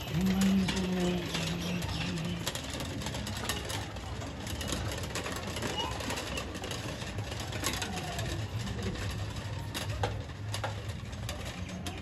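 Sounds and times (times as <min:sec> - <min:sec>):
metal prayer wheels rumbling: 0:00.0 - 0:12.0.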